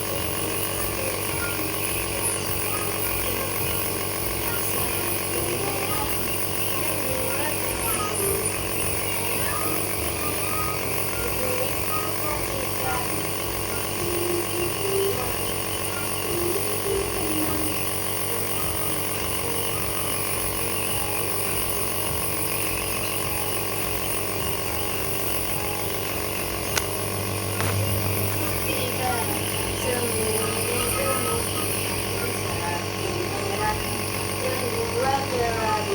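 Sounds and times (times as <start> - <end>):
nebulizer electric hum: 0.0 - 35.9.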